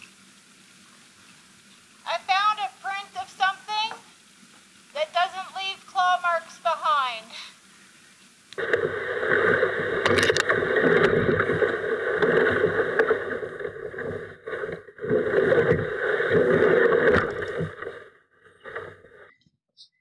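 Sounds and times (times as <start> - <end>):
water rushing around kayak: 0.0 - 19.3.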